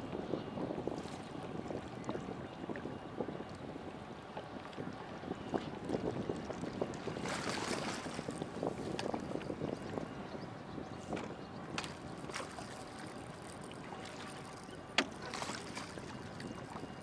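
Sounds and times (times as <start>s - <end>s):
water splashing around boat: 0.0s - 17.0s.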